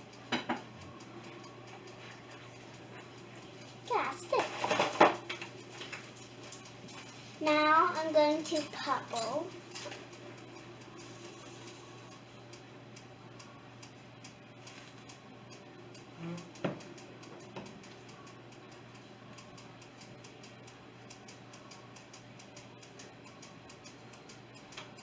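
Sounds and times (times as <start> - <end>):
rapid even ticking: 0.9 - 25.0.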